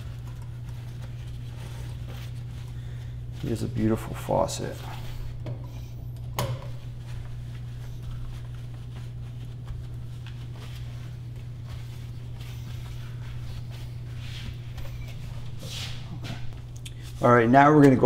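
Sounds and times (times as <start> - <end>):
cloth rubbing faucet and countertop: 0.0 - 5.4, 6.7 - 17.4
steady low hum: 0.0 - 18.0.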